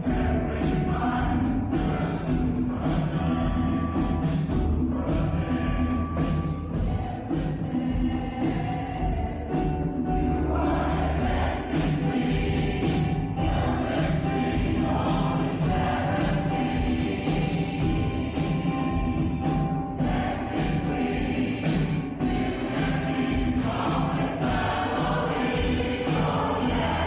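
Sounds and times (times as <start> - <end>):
choir singing: 0.0 - 27.0
percussion beat: 0.0 - 27.0.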